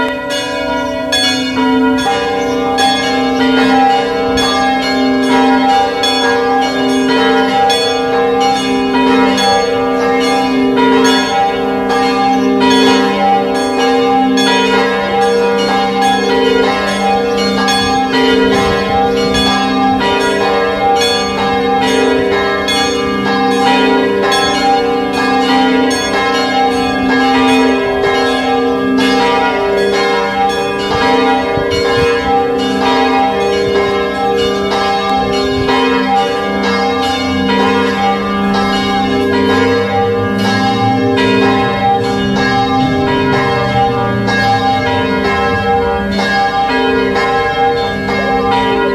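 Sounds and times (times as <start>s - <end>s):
church bells pealing: 0.0s - 48.9s.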